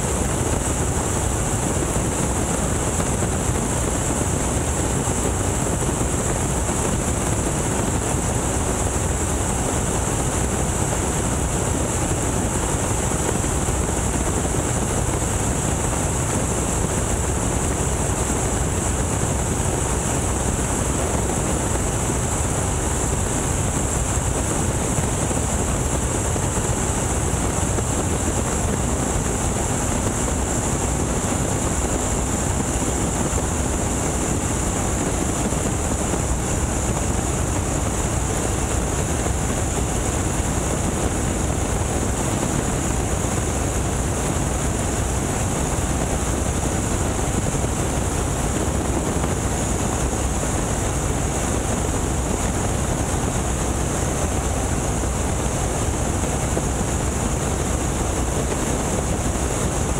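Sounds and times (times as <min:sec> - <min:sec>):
radial aircraft engine running: 0:00.0 - 0:59.9.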